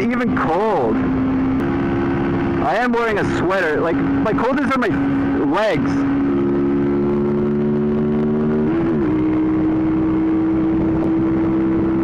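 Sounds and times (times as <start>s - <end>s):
motorcycle engine running: 0.0s - 12.0s
wind noise: 0.0s - 12.0s.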